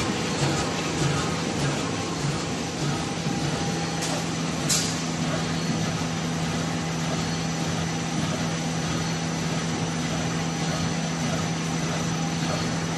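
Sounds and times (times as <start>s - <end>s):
packing machine running: 0.0s - 12.9s.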